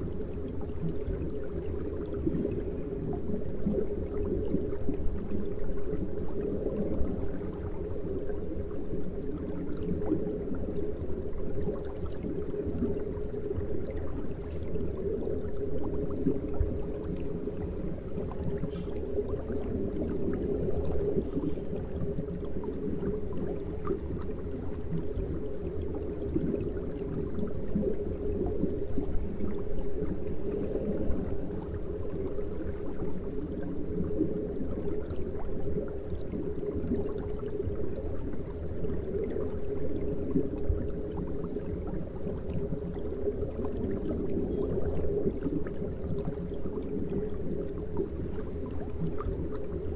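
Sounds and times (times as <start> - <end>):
aquarium water bubbling: 0.0 - 49.9.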